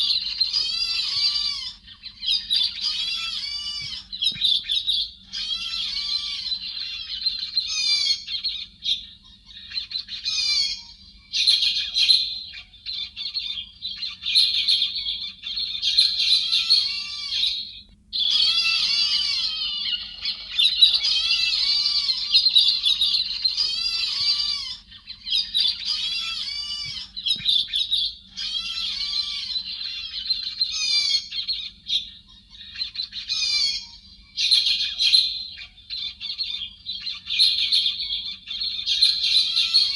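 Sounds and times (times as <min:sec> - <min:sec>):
chattering squawky bird calls: 0:00.0 - 0:39.9.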